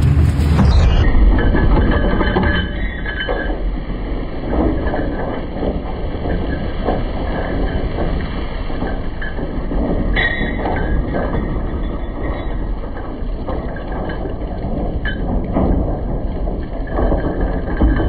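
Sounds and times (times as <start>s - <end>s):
heavy chain clattering on steel deck: 0.0s - 18.0s
low rumble of vessel: 0.0s - 18.0s.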